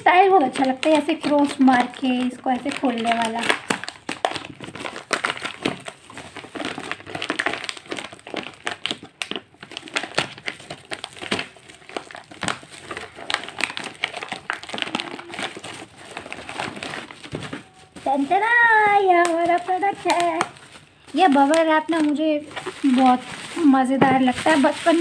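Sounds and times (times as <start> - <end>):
plastic mailer and bubble wrap crinkling: 0.0 - 25.0
plastic mailer tearing: 0.1 - 25.0.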